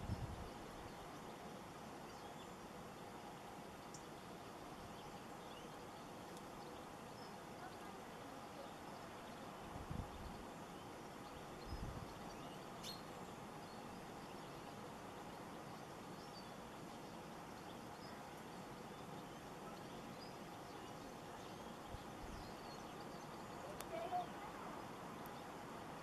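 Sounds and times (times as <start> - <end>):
birds chirping faintly: 0.0 - 26.0
steady background hiss: 0.0 - 26.0.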